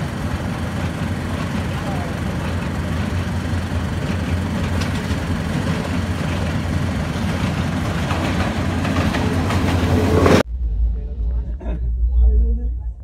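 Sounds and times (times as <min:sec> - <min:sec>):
train wheels on rails: 0:00.0 - 0:10.4
diesel locomotive engine rumble: 0:00.0 - 0:13.0.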